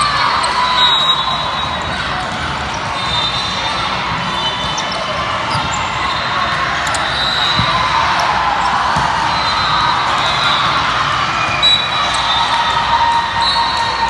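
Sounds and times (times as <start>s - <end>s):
hubbub of spectators: 0.0s - 14.0s.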